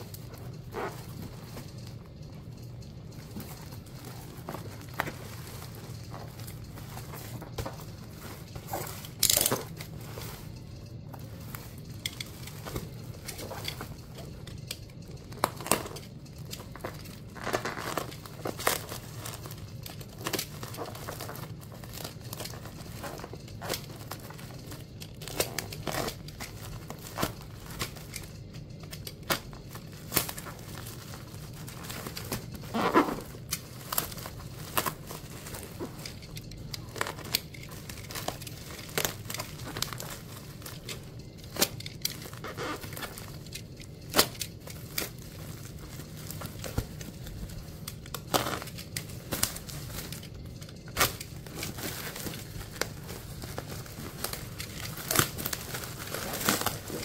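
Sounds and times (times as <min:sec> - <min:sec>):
plastic and tape crinkling: 0:00.0 - 0:57.0
steady low hum: 0:00.0 - 0:57.0
wrapping ripping: 0:00.0 - 0:57.0.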